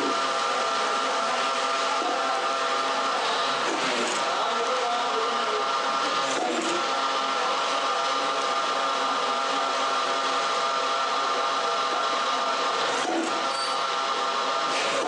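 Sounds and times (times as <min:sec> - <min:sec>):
machine motor hum: 0:00.0 - 0:15.0.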